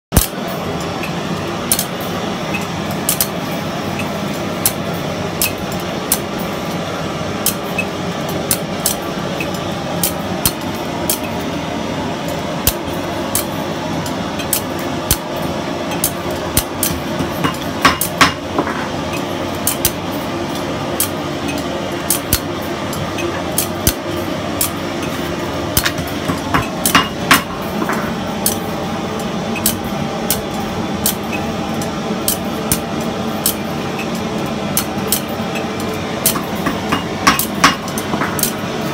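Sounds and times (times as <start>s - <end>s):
steady background hum: 0.1s - 38.9s.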